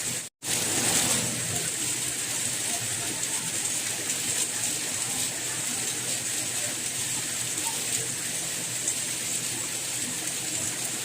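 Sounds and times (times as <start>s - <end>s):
soft rain hiss: 0.0s - 11.0s.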